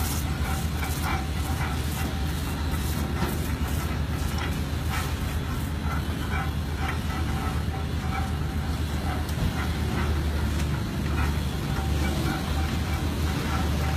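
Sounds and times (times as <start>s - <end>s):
machine low rumble: 0.0s - 13.9s.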